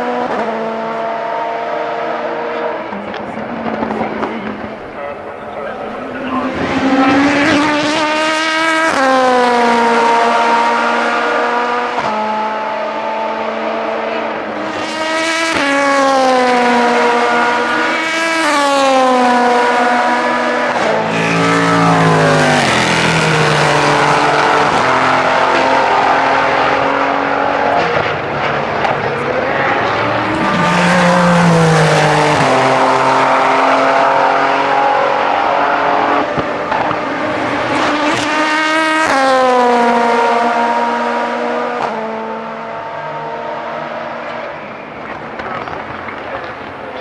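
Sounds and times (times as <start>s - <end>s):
race car engines with gear shifts: 0.0s - 47.0s.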